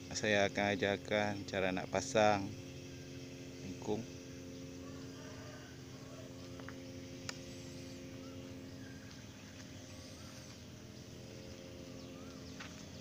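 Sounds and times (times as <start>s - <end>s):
steady low hum: 0.0s - 13.0s
faint bird chirps: 0.9s - 13.0s.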